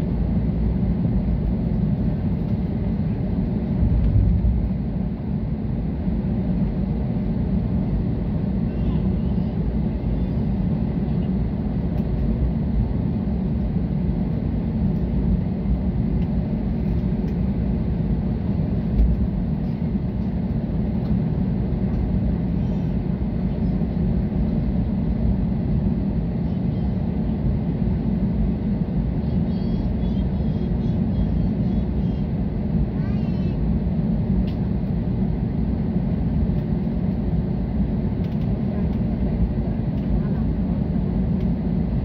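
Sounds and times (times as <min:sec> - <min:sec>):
aircraft cabin engine rumble: 0:00.0 - 0:42.0.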